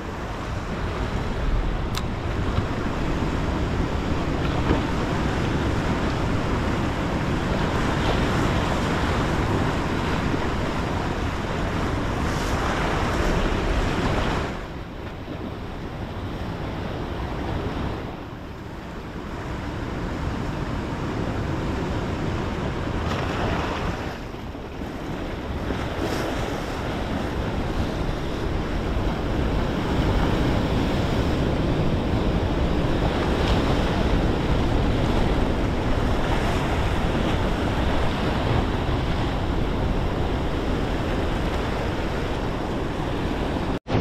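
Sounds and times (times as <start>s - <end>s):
sea surf breaking: 0.0s - 44.0s
wind on microphone: 0.0s - 44.0s.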